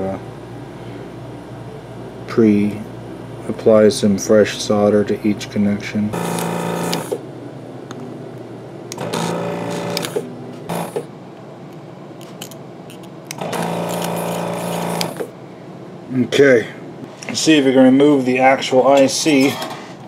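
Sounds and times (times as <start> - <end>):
desoldering vacuum pump humming: 0.0 - 20.0.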